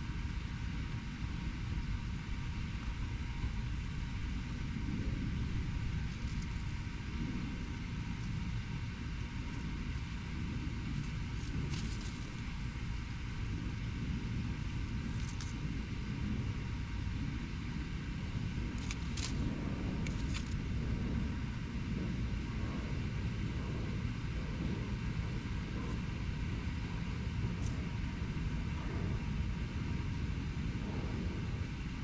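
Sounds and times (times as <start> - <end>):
urban road traffic rumble: 0.0 - 32.0.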